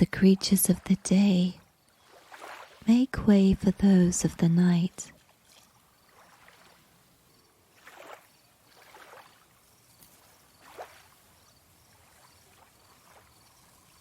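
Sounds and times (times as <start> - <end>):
water lapping softly: 0.0 - 14.0.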